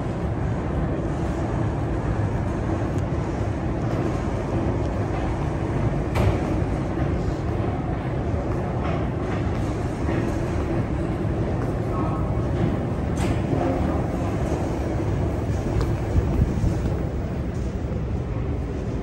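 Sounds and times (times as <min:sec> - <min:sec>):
low rumble of metro station: 0:00.0 - 0:19.0.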